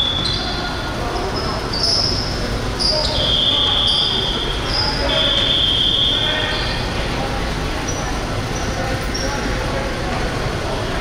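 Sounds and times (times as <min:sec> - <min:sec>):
voices: 0:00.0 - 0:11.0.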